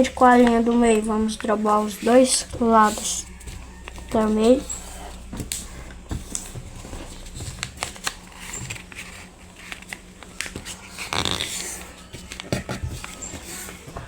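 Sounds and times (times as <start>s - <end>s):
paper rustling while folded: 0.0s - 14.0s.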